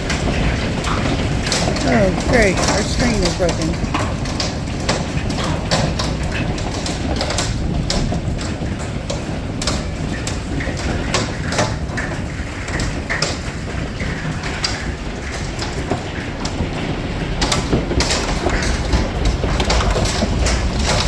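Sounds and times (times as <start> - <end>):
hailstones striking: 0.0 - 21.0
heavy rain roar: 0.0 - 21.0.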